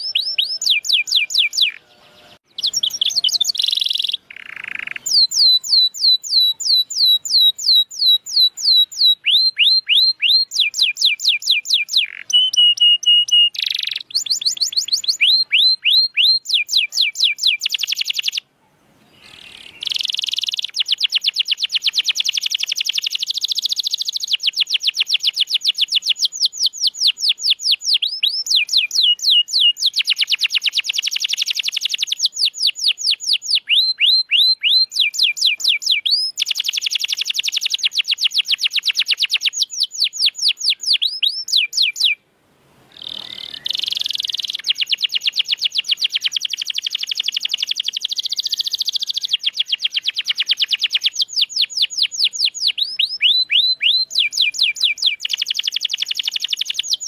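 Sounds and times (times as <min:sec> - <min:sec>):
canary singing: 0:00.0 - 0:42.2, 0:42.9 - 0:57.0.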